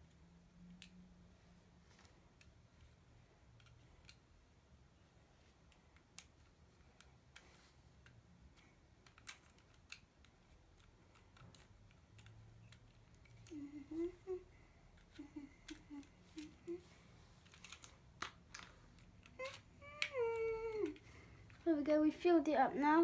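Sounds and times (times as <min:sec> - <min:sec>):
faint plastic clicks: 0:00.0 - 0:21.7.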